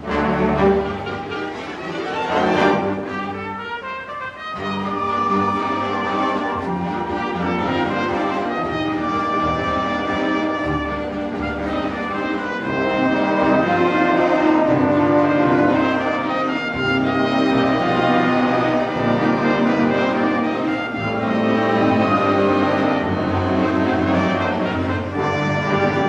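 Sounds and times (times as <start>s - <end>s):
orchestral brass and strings chords: 0.0s - 26.0s.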